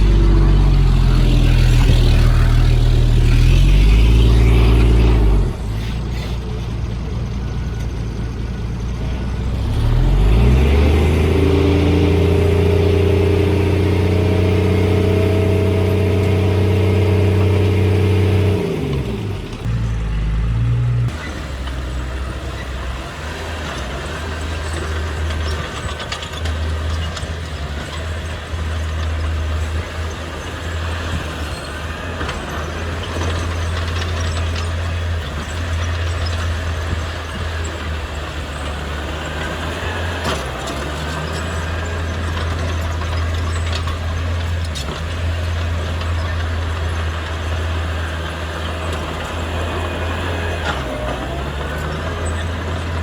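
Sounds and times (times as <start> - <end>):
heavy diesel engine revving: 0.0 - 53.0.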